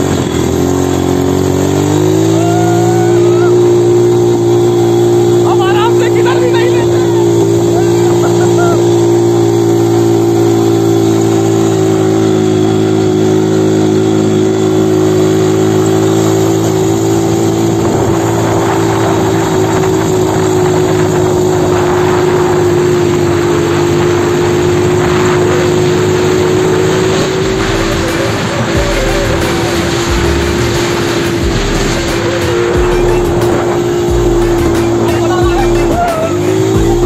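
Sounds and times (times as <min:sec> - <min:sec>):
quad bike engine running: 0:00.0 - 0:37.0
rushing noise: 0:00.0 - 0:37.0.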